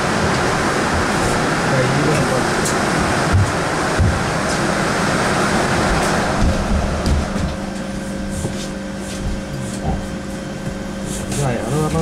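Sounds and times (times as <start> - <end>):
rushing noise: 0.0 - 9.8
bus cabin low hum: 0.0 - 12.0.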